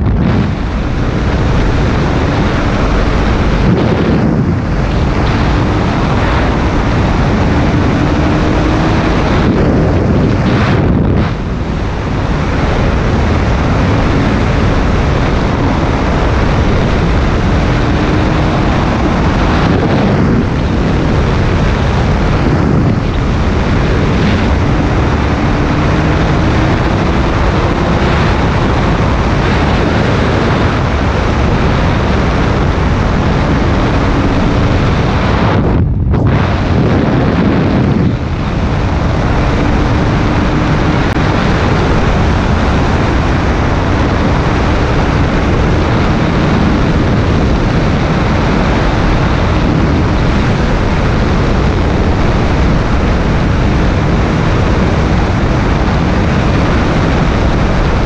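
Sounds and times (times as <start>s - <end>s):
motorcycle engine: 0.0s - 58.0s
wind buffeting microphone: 0.0s - 58.0s.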